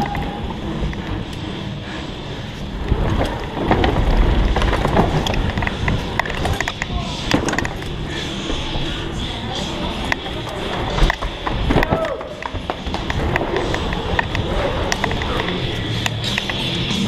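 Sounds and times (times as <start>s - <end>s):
bike tyre rumble: 0.0s - 17.0s.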